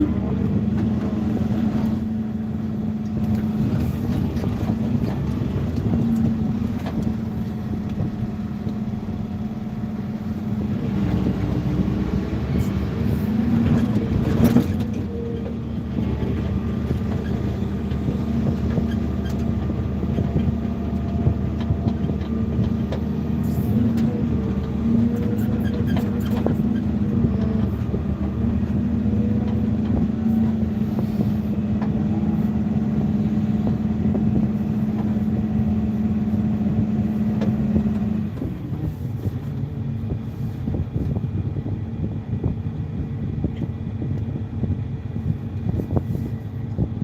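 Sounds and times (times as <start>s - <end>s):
heavy engine running: 0.0s - 47.0s.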